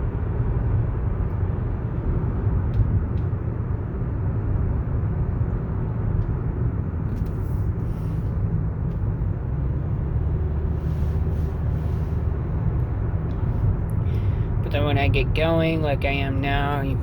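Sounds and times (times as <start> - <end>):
car road rumble: 0.0 - 17.0.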